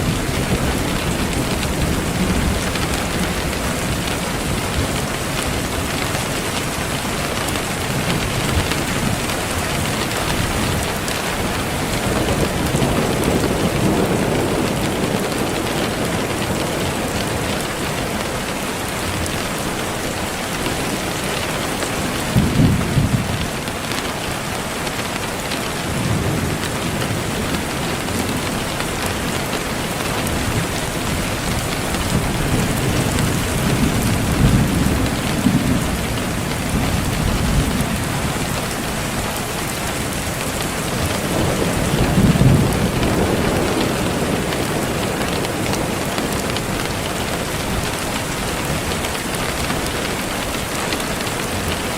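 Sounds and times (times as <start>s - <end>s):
thunder rumbling: 0.0s - 24.4s, 25.6s - 51.8s
steady rain: 0.0s - 51.9s.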